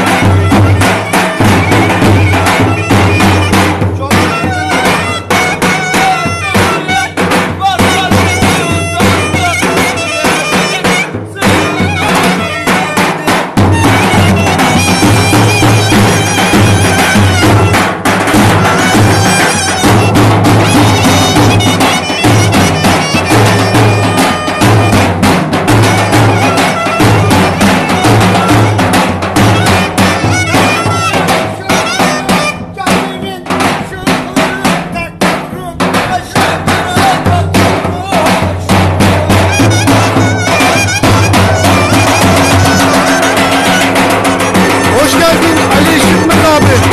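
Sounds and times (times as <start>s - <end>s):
reedy bagpipe-like wind instrument: 0.0s - 34.8s, 39.1s - 46.9s
heavy drum beat: 0.0s - 46.9s.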